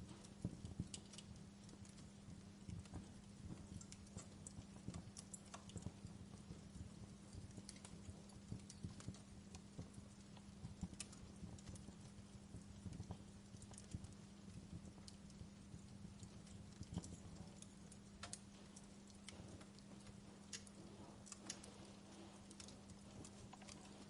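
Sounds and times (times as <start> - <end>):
faint low hum: 0.0 - 24.0
wood fire crackling: 0.0 - 24.0.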